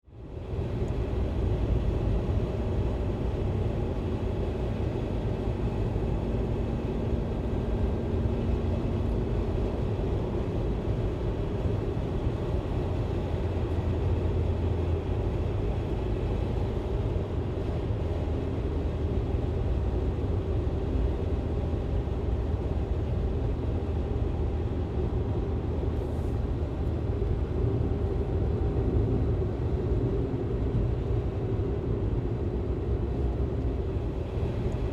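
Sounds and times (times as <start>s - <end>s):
engine and road noise in car: 0.0s - 34.9s.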